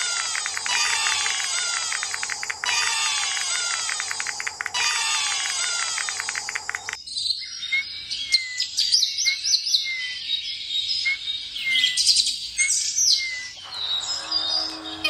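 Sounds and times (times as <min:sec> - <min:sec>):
birds chirping and whistling: 0:00.0 - 0:15.0.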